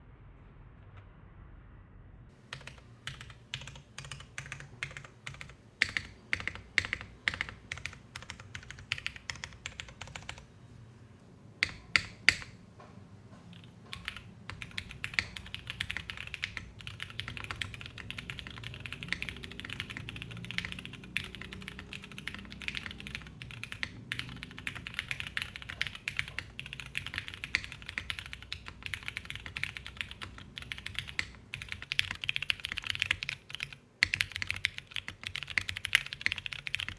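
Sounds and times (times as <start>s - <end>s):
mechanical keyboard typing: 2.4s - 10.5s, 11.5s - 36.9s.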